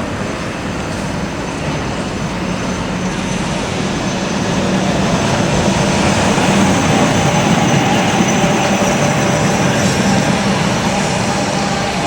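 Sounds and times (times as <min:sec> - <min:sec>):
electric tram running on tracks: 0:00.0 - 0:12.0.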